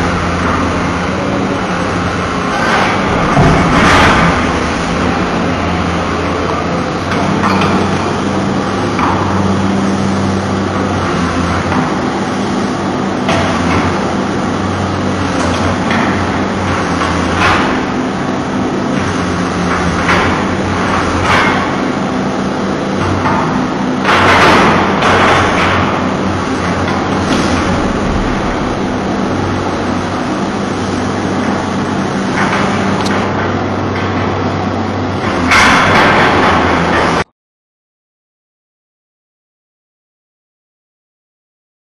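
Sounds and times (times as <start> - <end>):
excavator engine running: 0.0 - 37.3.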